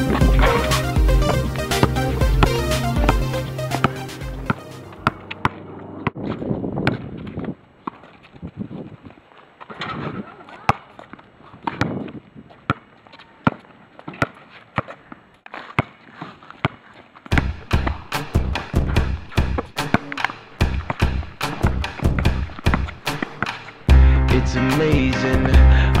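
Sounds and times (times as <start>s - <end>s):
basketball bouncing on concrete: 0.0s - 8.2s, 10.6s - 23.7s.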